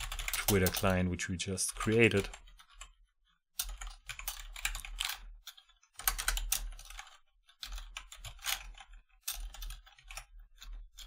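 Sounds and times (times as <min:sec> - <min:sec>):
typing on computer keyboard: 0:00.0 - 0:11.0.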